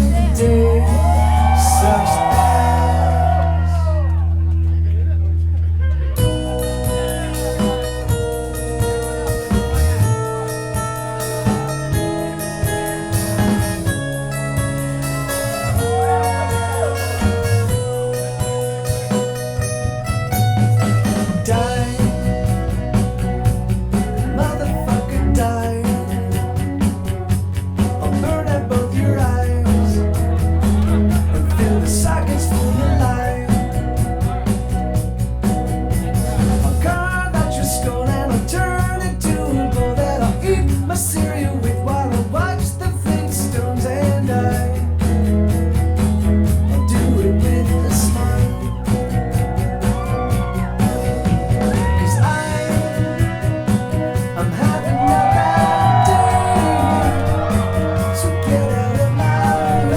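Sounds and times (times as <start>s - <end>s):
rock song: 0.0s - 4.4s, 6.2s - 59.9s
bass line: 0.0s - 59.9s.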